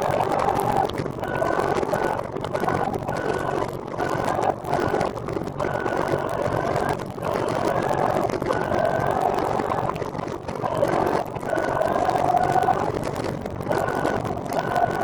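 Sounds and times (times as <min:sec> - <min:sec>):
wind and rolling noise on microphone: 0:00.0 - 0:15.0.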